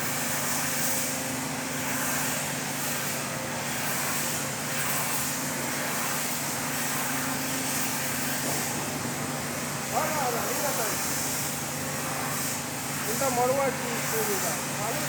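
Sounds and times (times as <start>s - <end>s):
machine hiss and low hum: 0.0s - 15.0s.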